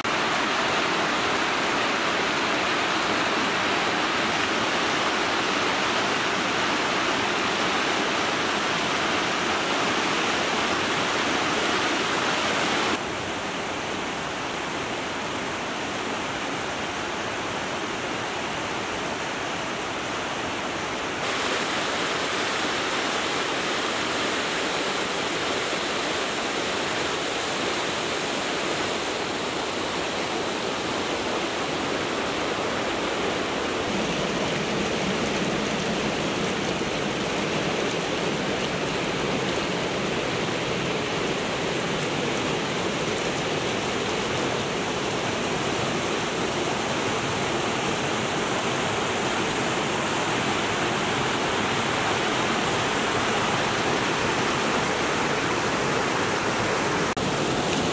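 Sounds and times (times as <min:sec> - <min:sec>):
creek rushing over rocks: 0:00.0 - 0:18.6, 0:19.2 - 0:57.9.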